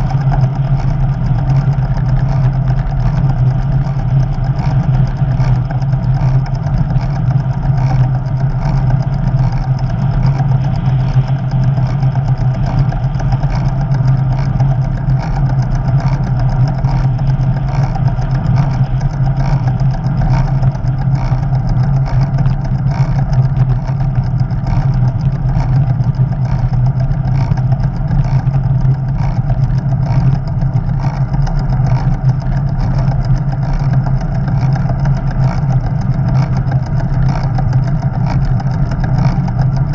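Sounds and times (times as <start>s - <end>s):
bicycle tyre rumble on road: 0.0s - 39.9s.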